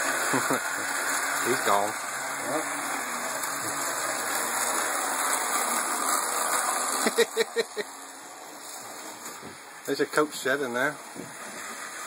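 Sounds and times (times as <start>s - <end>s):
model train rushing hiss: 0.0s - 12.0s.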